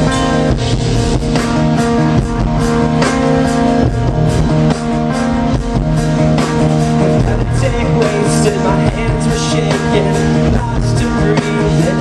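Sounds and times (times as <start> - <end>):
guitars holding sustained chords: 0.0 - 12.0
steady drum beat: 0.0 - 12.0.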